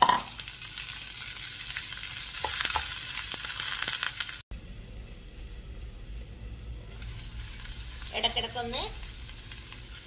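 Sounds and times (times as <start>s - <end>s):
frying sizzle: 0.0s - 10.0s.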